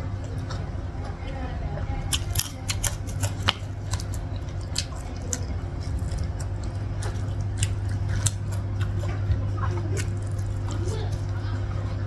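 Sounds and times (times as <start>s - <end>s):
chewing with clicks: 0.0s - 12.0s
steady low hum: 0.0s - 12.0s
wet squishing of food by hand: 0.0s - 12.0s.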